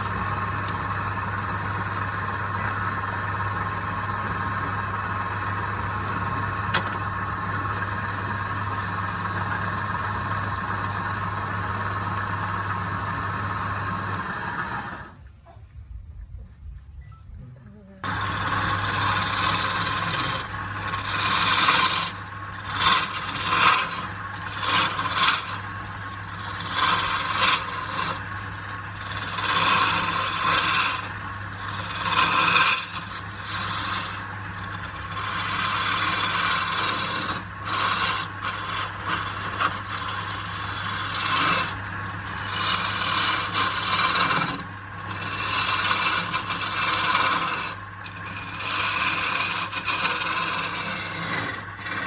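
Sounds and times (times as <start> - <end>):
lathe motor hum: 0.0 - 15.2, 18.0 - 52.0
wood scraping on lathe: 0.0 - 15.2, 18.0 - 52.0.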